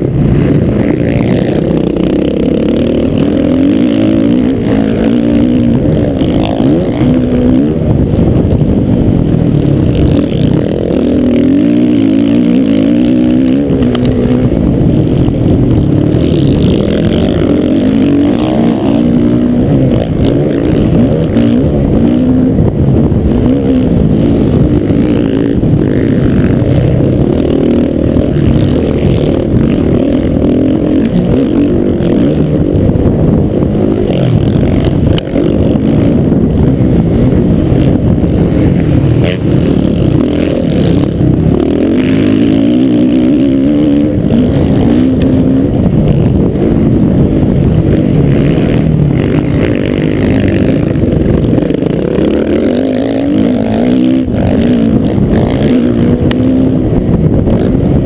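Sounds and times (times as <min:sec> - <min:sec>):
motocross bike engine racing: 0:00.0 - 0:58.0.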